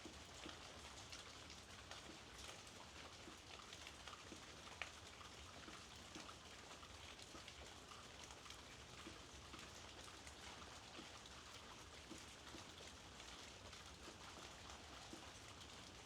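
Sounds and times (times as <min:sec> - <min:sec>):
faint rainfall: 0:00.0 - 0:16.0
raindrops ticking on a surface: 0:00.0 - 0:16.0.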